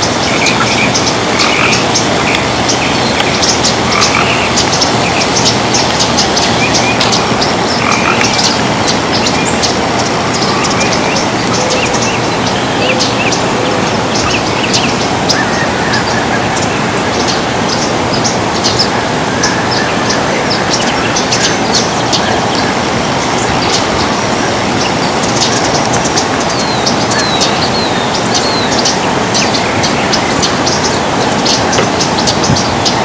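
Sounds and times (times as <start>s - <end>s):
whistled bird notes: 0.0s - 24.2s, 24.8s - 33.0s
loud rushing noise: 0.0s - 33.0s
small birds chirping: 0.0s - 33.0s.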